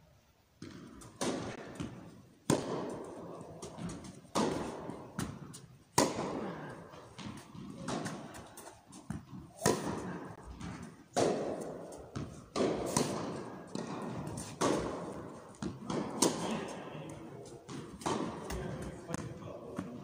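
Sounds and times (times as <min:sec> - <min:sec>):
ball bouncing on court: 0:00.6 - 0:20.0
racket hitting tennis ball: 0:00.6 - 0:20.0.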